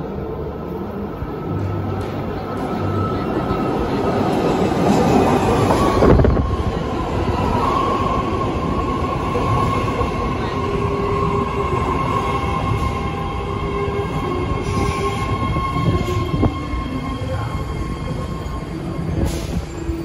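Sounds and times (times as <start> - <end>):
train rail noise rush: 0.0 - 20.0
train whine: 0.0 - 20.0.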